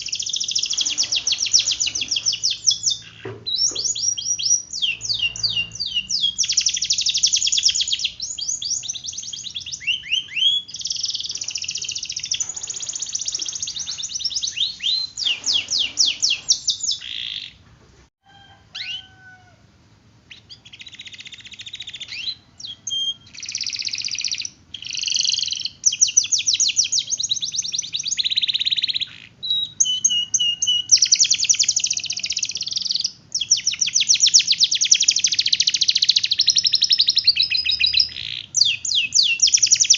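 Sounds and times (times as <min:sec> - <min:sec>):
canary singing trills: 0:00.0 - 0:17.7, 0:18.4 - 0:19.4, 0:20.3 - 0:39.9.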